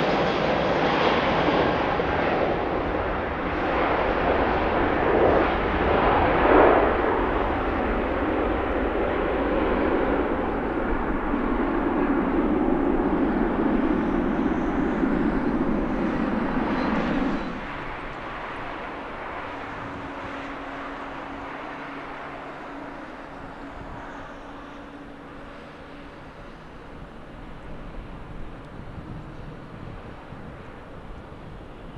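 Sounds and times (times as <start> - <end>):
jet engines roaring: 0.0 - 31.9
faint engine hum: 2.5 - 31.9.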